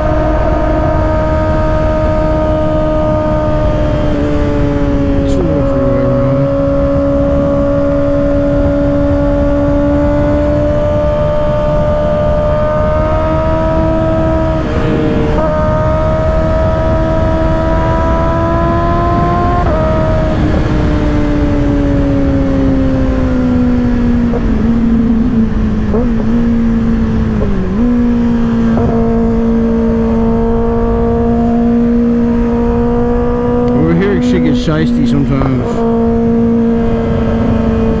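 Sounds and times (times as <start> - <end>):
motorcycle engine cruising: 0.0 - 38.0
wind rush: 0.0 - 38.0.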